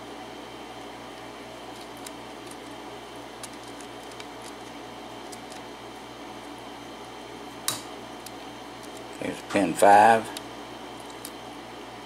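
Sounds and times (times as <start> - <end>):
steady hiss and low hum: 0.0 - 12.0.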